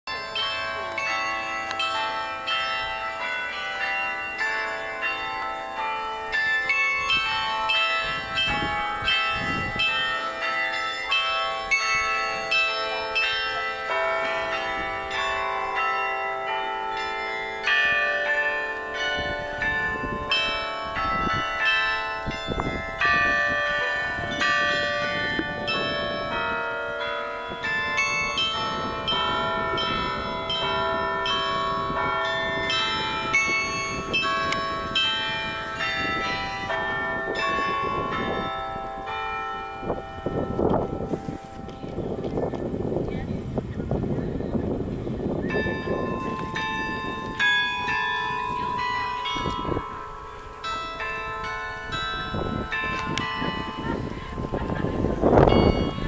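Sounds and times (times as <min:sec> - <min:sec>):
carillon bells ringing a tune: 0:00.1 - 0:56.0.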